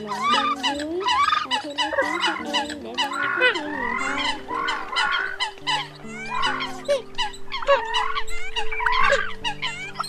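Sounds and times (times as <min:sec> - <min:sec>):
coots calling: 0:00.0 - 0:10.0.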